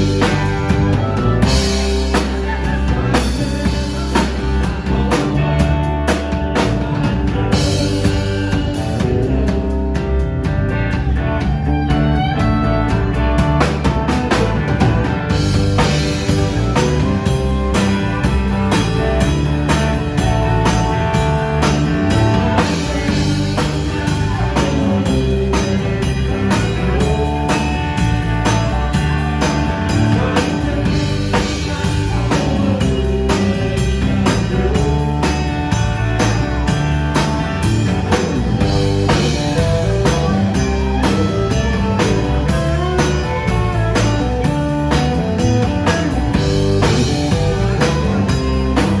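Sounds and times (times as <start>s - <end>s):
bass: 0.0s - 49.0s
drum kit beat: 0.0s - 49.0s
electric and acoustic guitars: 0.0s - 49.0s.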